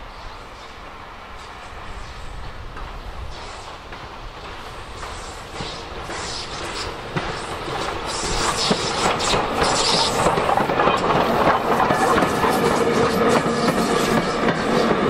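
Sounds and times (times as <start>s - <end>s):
steam train running past: 0.0s - 15.0s.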